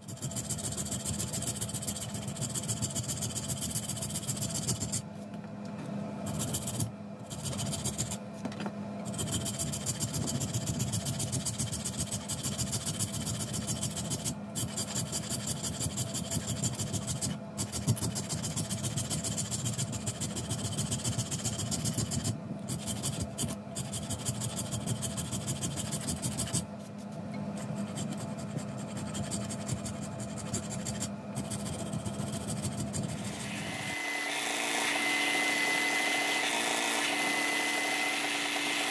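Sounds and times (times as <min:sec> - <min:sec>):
file rasping back and forth: 0:00.0 - 0:05.1, 0:06.2 - 0:08.2, 0:09.0 - 0:38.9.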